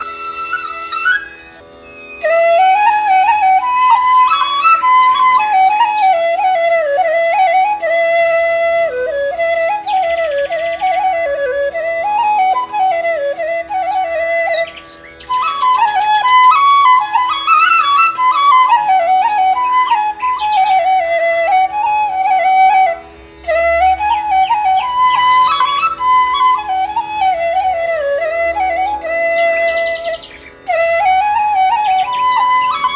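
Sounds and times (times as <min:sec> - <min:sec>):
flute melody: 0:00.0 - 0:32.9.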